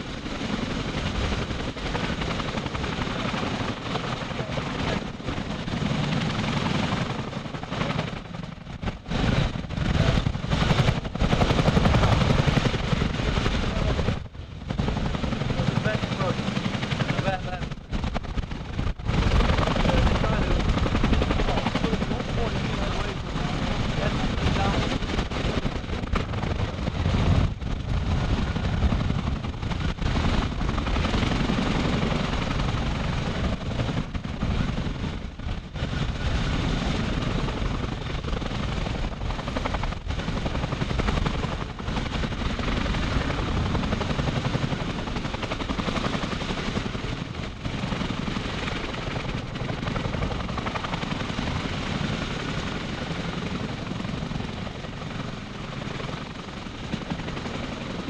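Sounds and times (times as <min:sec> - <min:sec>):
helicopter rotors and turbine: 0:00.0 - 0:58.0.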